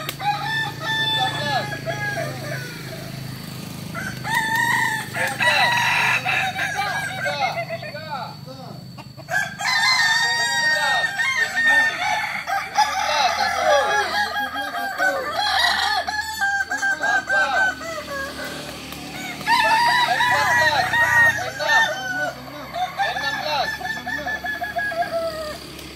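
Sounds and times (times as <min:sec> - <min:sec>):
roosters crowing: 0:00.0 - 0:25.9.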